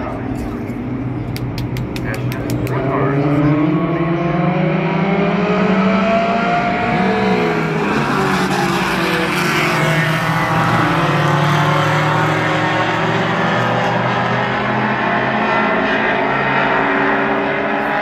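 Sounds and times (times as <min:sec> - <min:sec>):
cars passing close by: 0:00.0 - 0:18.0
race car engines: 0:00.0 - 0:18.0.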